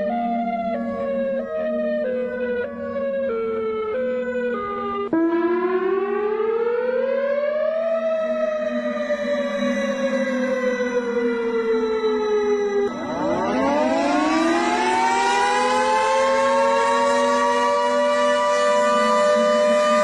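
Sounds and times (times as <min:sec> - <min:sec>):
civil defense siren wailing: 0:00.0 - 0:20.0
siren stepping down in pitch: 0:00.0 - 0:20.0.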